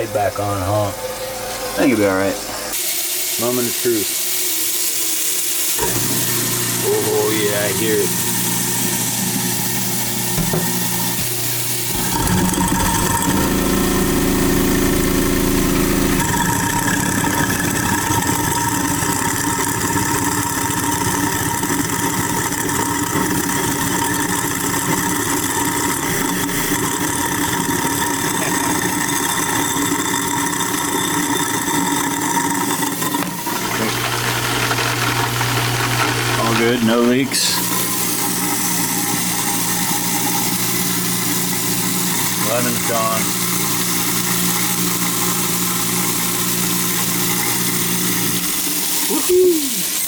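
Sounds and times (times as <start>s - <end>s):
garbage disposal motor hum: 0.0s - 50.0s
water flowing: 0.0s - 50.0s
disposal grinding: 5.8s - 50.0s.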